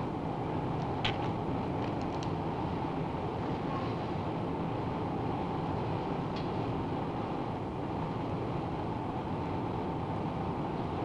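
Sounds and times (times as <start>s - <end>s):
dense industrial furnace noise: 0.0s - 11.0s.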